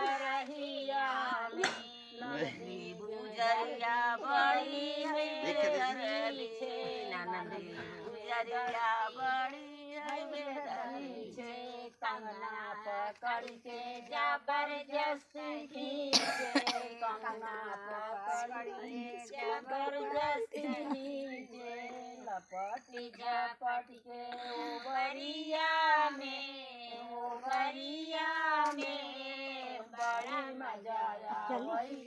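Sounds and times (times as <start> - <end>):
women singing folk song: 0.0 - 32.0.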